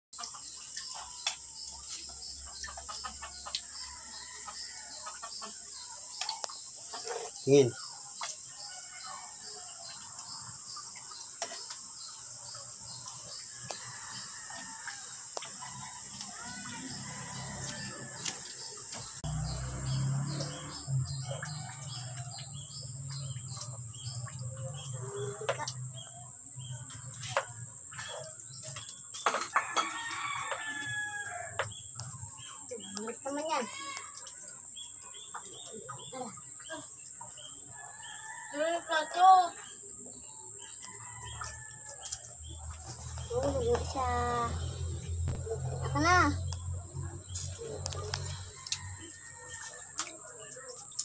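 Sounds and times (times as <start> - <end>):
small birds chirping: 0.2 - 51.0.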